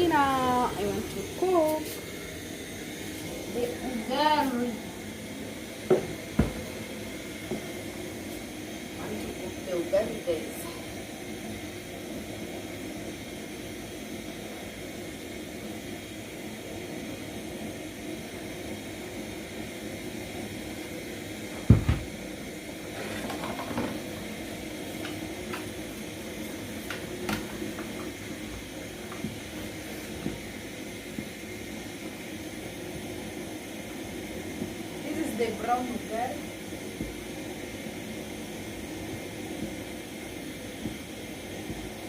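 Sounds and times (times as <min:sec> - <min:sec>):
water boiling hiss: 0:00.0 - 0:42.0.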